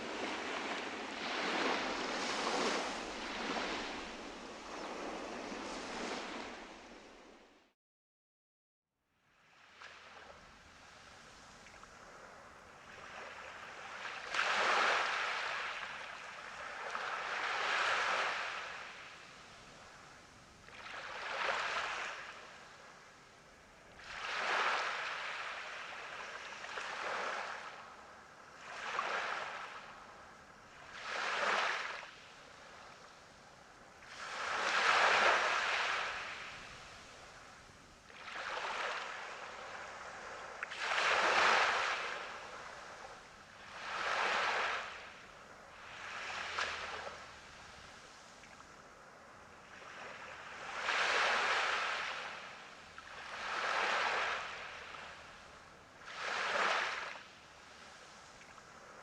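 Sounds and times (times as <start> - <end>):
waves breaking on a beach: 0.0 - 7.6, 9.3 - 59.0.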